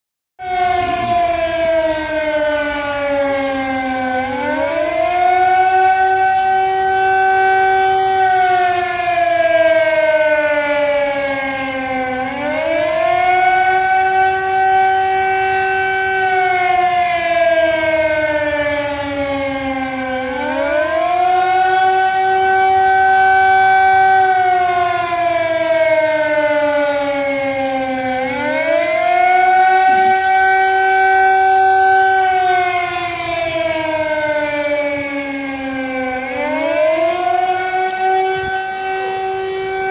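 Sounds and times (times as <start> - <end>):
warning siren wailing: 0.4 - 39.9.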